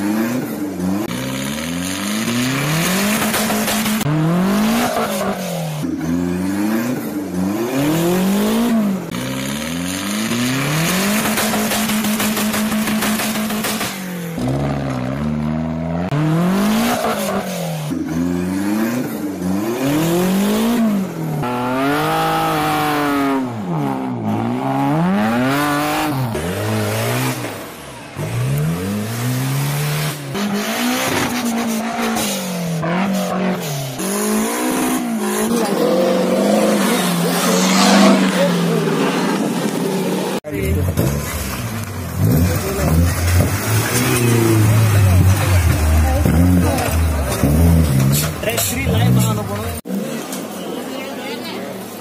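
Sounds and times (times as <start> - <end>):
off-road engine revving hard: 0.0 - 50.5.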